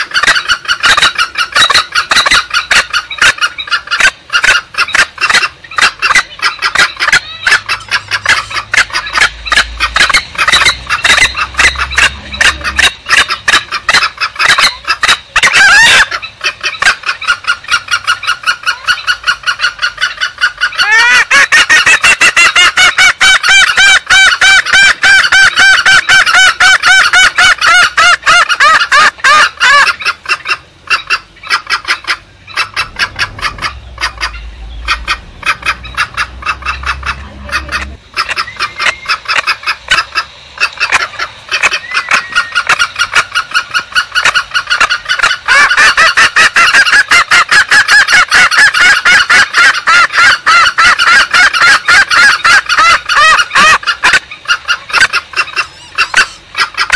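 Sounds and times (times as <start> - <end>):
junglefowl clucking calls: 0.0 - 56.9
pulsed bird calls: 0.0 - 56.9.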